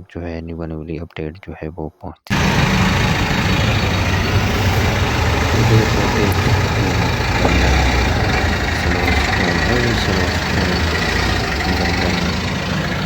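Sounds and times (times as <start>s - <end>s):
traffic noise: 2.3s - 13.0s
vehicle engine rumbling: 2.3s - 13.0s.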